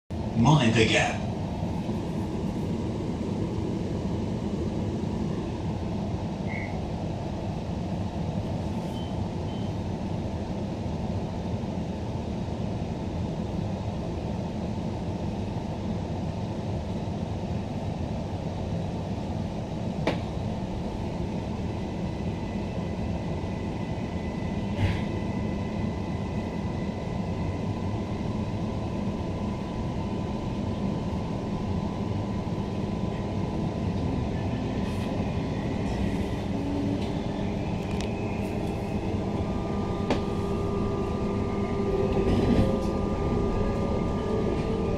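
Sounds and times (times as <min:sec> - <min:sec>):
air conditioning and running gear hum: 0:00.1 - 0:44.9
faint train whine: 0:00.1 - 0:44.9.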